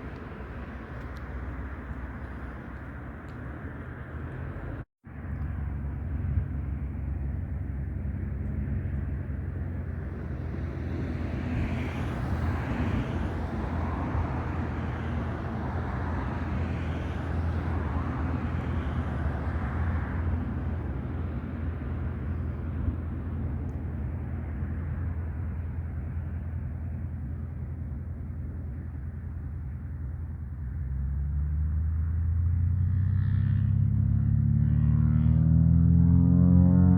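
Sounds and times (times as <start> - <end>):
propeller aircraft engine drone: 0.0 - 36.9.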